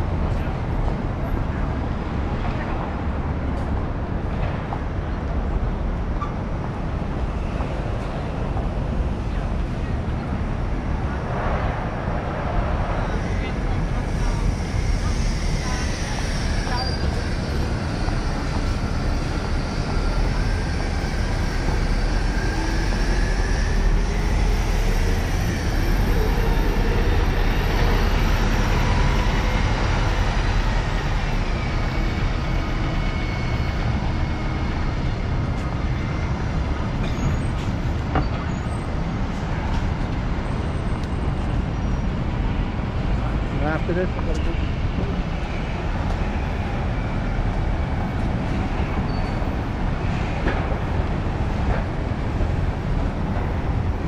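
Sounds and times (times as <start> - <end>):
heavy city traffic rumble: 0.0 - 54.0.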